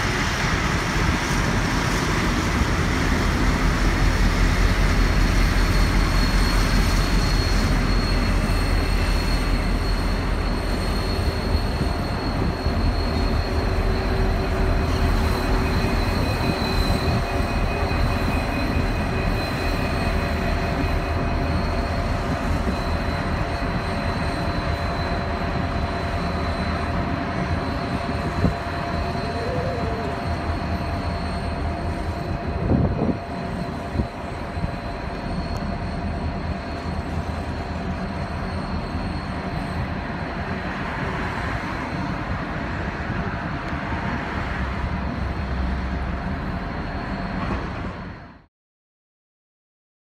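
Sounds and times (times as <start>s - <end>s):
diesel locomotive engine rumble: 0.0s - 48.5s.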